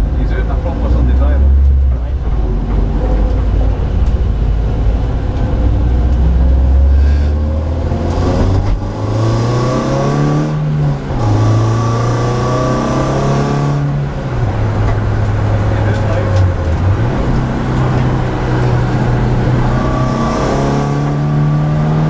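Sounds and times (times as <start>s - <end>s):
race car engine accelerating: 0.0s - 22.0s.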